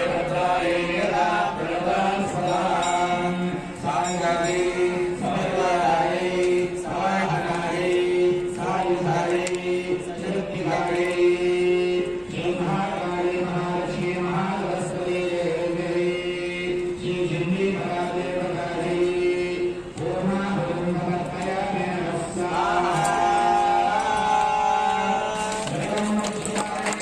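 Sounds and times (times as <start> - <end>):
mantras chanted: 0.0 - 27.0.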